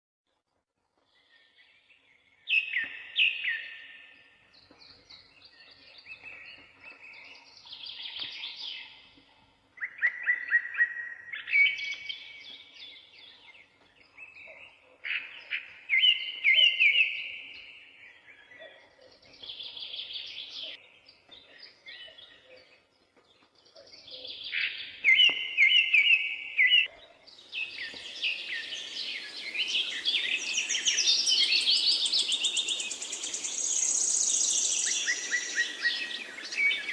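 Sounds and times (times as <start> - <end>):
songbirds chirping and trilling: 1.0 - 36.9.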